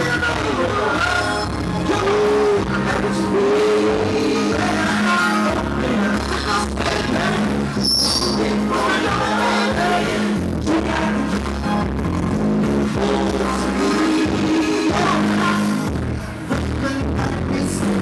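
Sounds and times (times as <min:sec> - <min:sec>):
man singing into a microphone: 0:00.0 - 0:11.6, 0:12.9 - 0:18.0
heavy bass line: 0:00.0 - 0:18.0
live music through a pa: 0:00.0 - 0:18.0.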